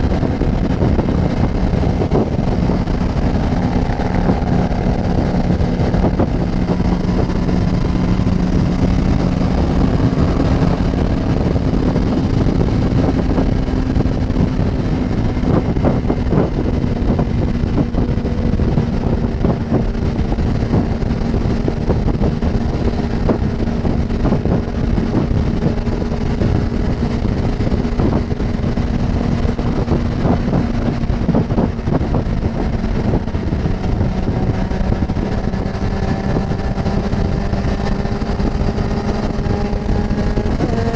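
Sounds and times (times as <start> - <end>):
motorcycle engine cruising: 0.0 - 40.9
wind buffeting microphone: 0.0 - 40.9.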